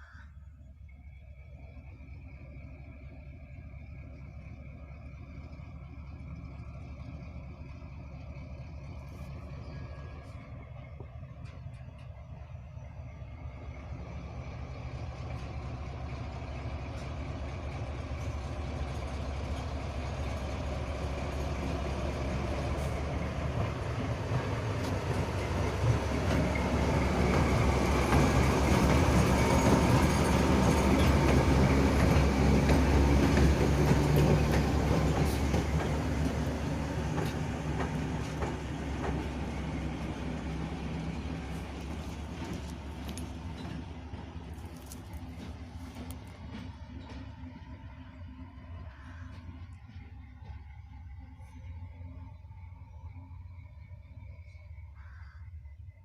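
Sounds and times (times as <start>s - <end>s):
locomotive passing by: 0.0s - 56.0s.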